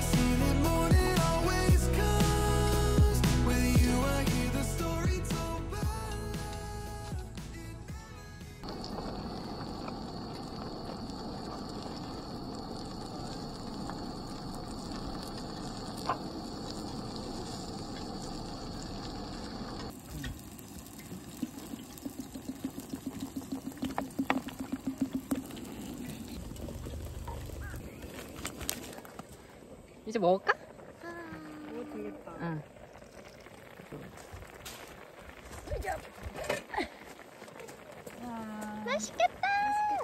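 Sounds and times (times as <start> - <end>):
food sizzling: 0.0 - 7.7, 8.6 - 29.4, 30.1 - 40.0.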